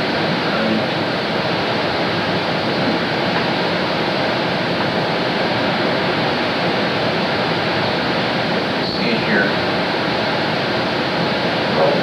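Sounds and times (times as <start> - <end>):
loud steady hiss: 0.0 - 12.0.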